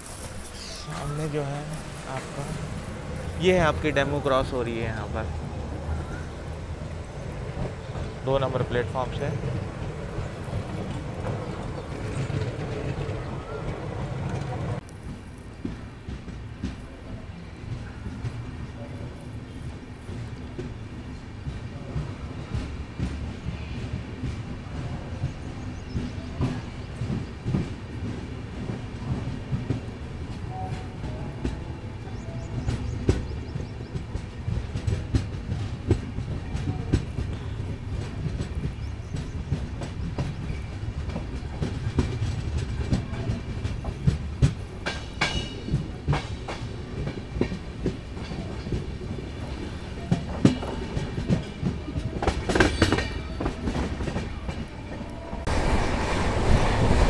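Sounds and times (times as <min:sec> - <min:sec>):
train rumbling: 0:00.0 - 0:57.0
wheels clicking over rail joints: 0:06.4 - 0:17.0, 0:17.7 - 0:57.0.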